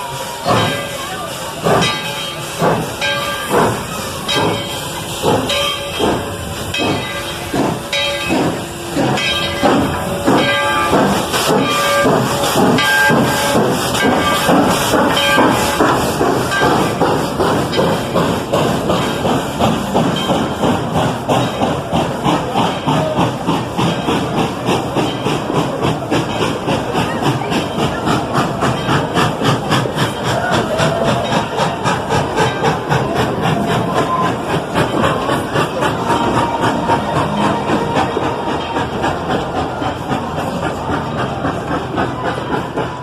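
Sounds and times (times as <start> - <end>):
steam hissing: 0.0 - 43.0
steam locomotive exhaust chuffs: 0.0 - 43.0.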